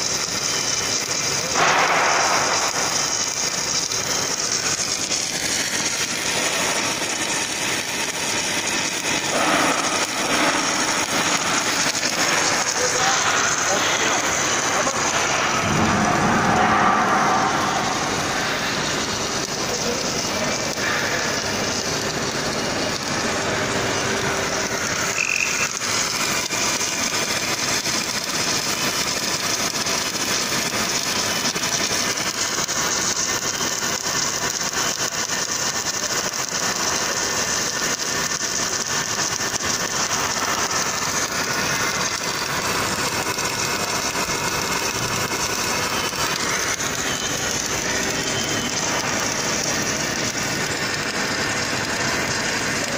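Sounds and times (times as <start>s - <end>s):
welding arc hissing: 0.0s - 52.9s.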